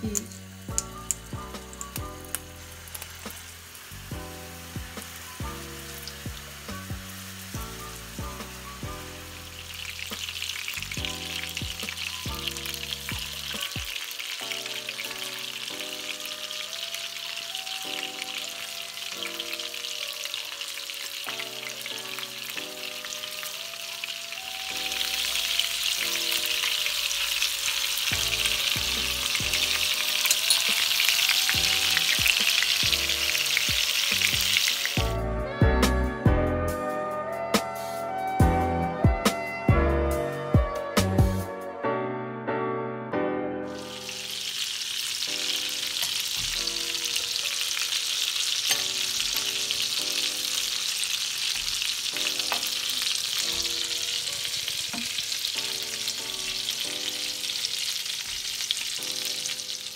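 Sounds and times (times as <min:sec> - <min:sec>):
meat sizzling in oil: 0:00.0 - 0:35.2, 0:43.7 - 0:59.9
background music: 0:00.0 - 0:59.9.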